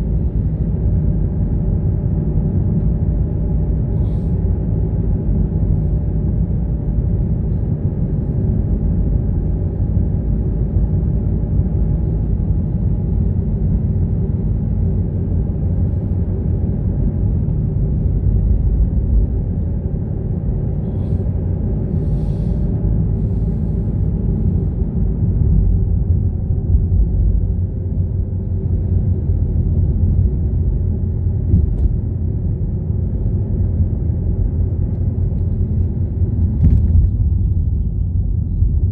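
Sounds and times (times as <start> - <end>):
car engine and road noise: 0.0 - 38.9
faint even hum: 2.7 - 38.9.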